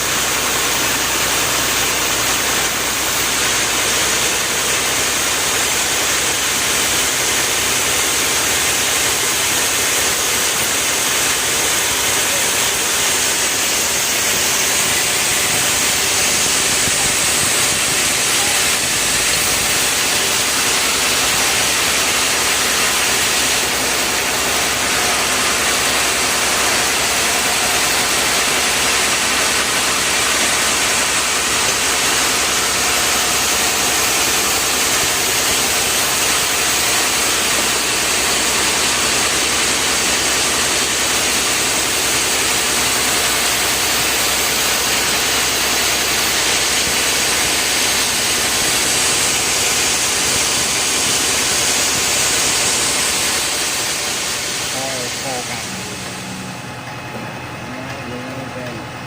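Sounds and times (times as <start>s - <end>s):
motor running steadily: 0.0s - 59.0s.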